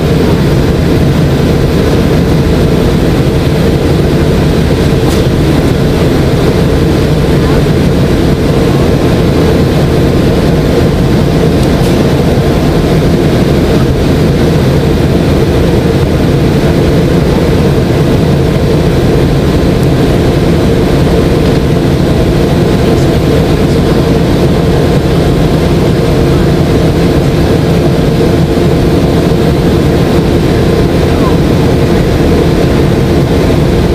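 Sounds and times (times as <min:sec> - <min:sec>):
airliner cabin engine drone: 0:00.0 - 0:33.9
rushing airflow: 0:00.0 - 0:33.9
steady hum tones: 0:00.0 - 0:33.9.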